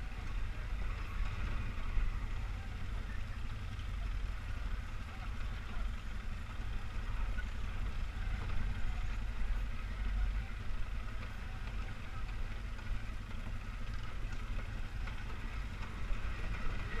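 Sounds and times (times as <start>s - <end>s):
atv engine running at low speed: 0.0s - 17.0s.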